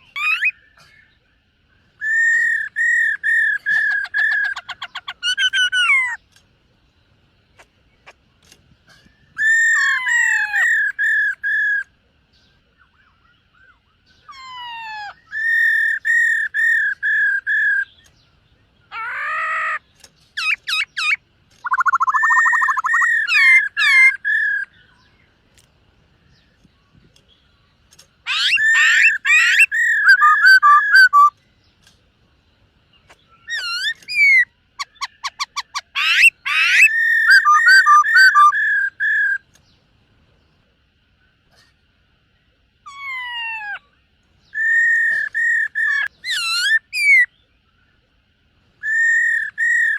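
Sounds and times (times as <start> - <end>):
bird whistled song: 0.0 - 6.4, 7.5 - 25.3, 26.2 - 31.9, 33.0 - 39.8, 42.8 - 48.0, 48.8 - 49.9.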